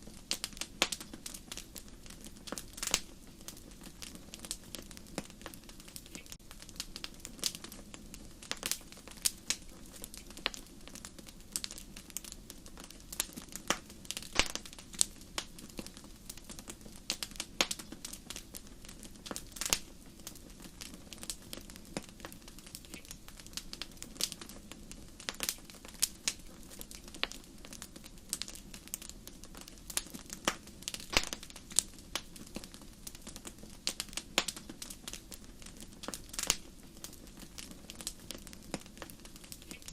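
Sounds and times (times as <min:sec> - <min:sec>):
hiss of flames: 0:00.0 - 0:39.9
wood fire crackling: 0:00.0 - 0:39.9.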